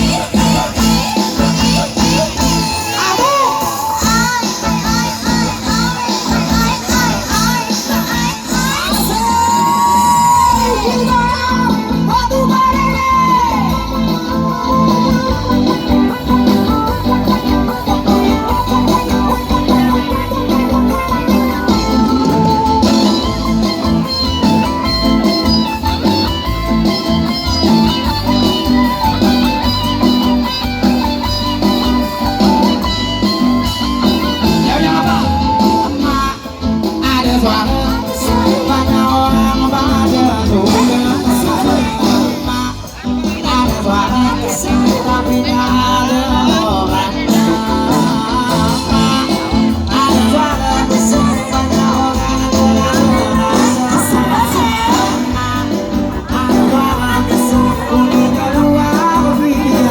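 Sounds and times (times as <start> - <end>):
guitar band music: 0.0 - 59.9.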